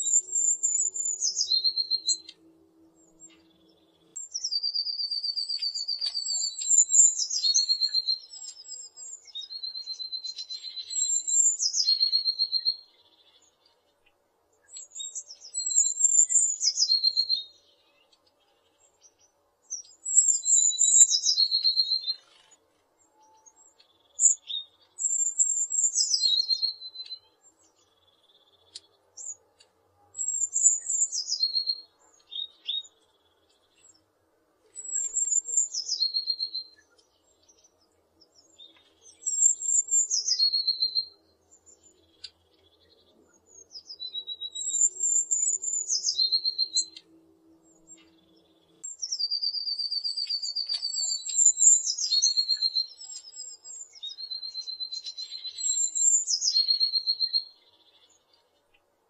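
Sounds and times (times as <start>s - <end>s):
bird singing: 0.0s - 58.9s.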